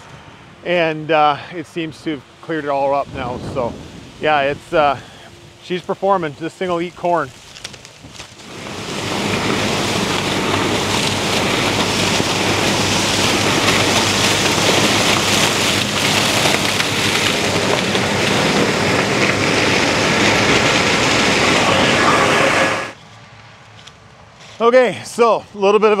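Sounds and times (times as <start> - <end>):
combine engine drone: 0.0 - 24.3.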